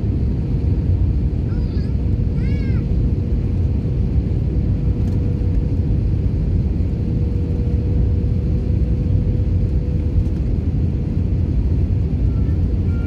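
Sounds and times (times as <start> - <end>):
airflow over fuselage: 0.0 - 13.0
low rumble of jet engines: 0.0 - 13.0.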